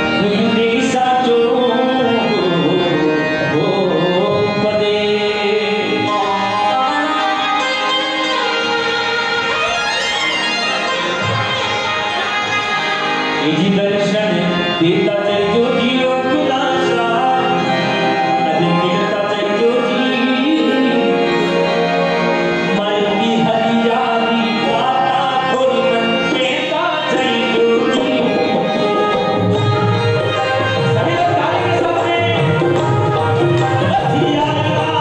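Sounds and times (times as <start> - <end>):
harmonium melody: 0.0 - 35.0.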